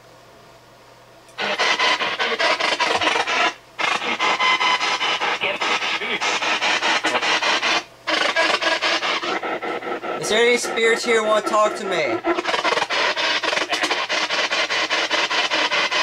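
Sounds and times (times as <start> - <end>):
clipped broadcast fragments: 1.4 - 16.0
radio static sweeping: 1.4 - 16.0.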